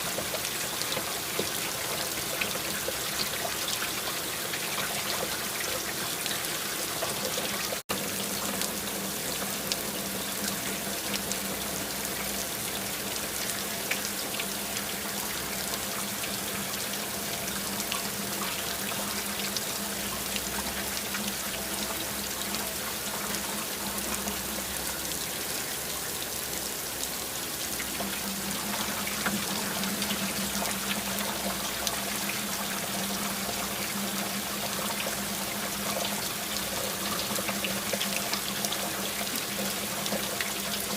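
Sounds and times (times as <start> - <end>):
rain falling: 0.0 - 40.9
running water: 0.0 - 40.9.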